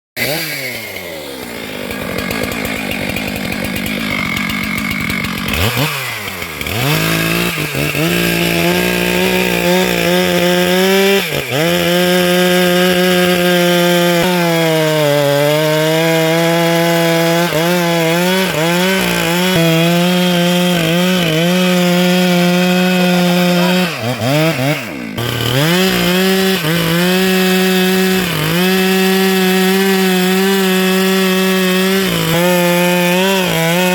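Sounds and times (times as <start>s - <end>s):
chainsaw cutting wood: 0.2s - 33.9s.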